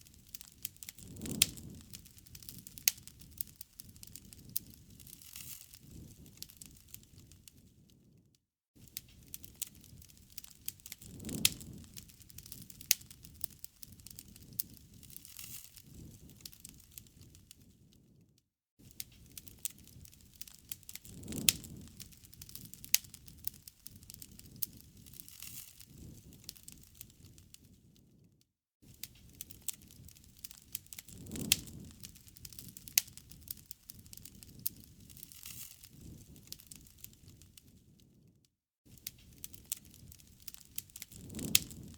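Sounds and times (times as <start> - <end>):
wood fire crackling and popping: 0.0 - 8.2, 8.8 - 18.2, 18.8 - 28.2, 28.8 - 38.2, 38.9 - 41.9.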